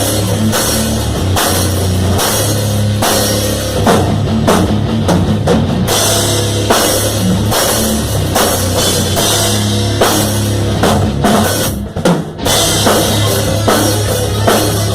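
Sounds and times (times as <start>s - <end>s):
bass drum: 0.0s - 14.9s
loud rock music: 0.0s - 14.9s.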